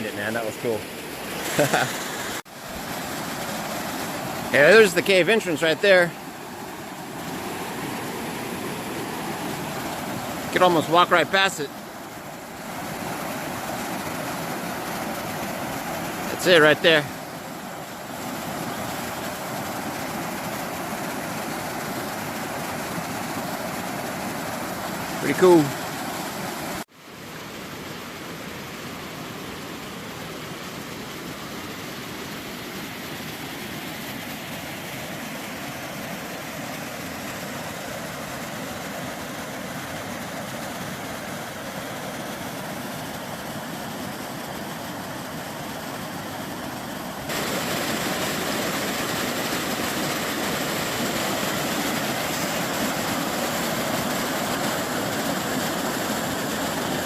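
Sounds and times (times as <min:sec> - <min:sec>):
waterfall rushing: 0:00.0 - 0:26.9, 0:32.4 - 0:57.0.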